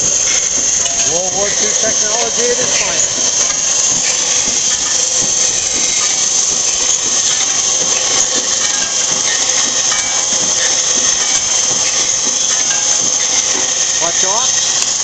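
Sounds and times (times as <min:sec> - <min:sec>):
machine clattering: 0:00.0 - 0:15.0.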